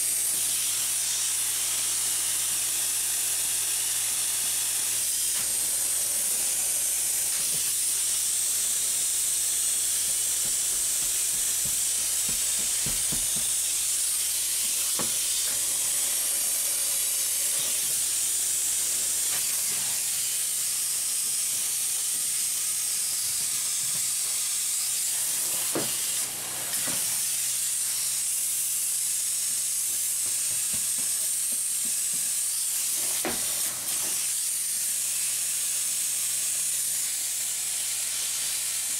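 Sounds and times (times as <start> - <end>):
spray foam gun hissing: 0.0 - 36.6.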